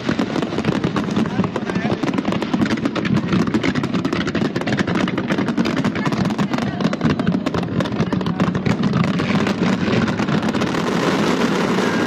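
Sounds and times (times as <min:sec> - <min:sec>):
fireworks bangs and crackles: 0:00.0 - 0:12.0
low fireworks rumble: 0:00.0 - 0:12.0.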